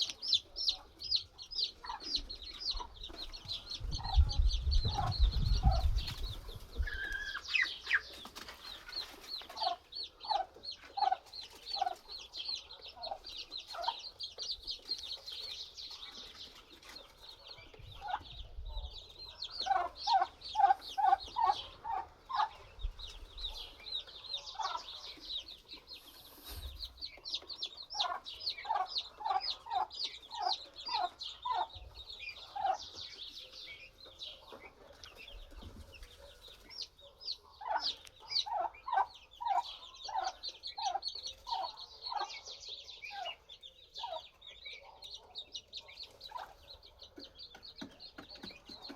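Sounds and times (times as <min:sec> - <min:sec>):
high-pitched peeping and chirping: 0:00.0 - 0:48.9
poultry clucking: 0:00.0 - 0:48.9.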